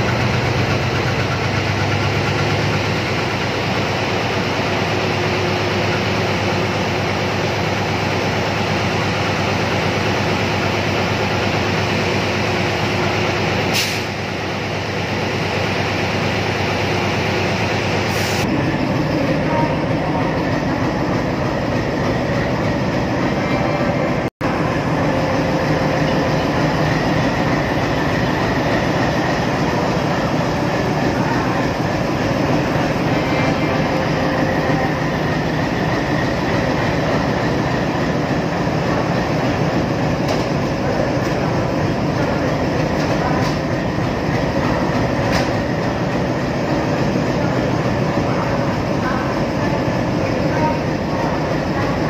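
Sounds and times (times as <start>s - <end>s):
diesel locomotive engine running: 0.0s - 52.0s.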